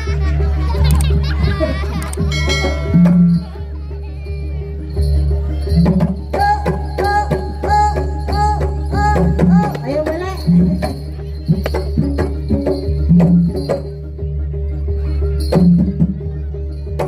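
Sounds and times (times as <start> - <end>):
hand drums beating: 0.0 - 14.2.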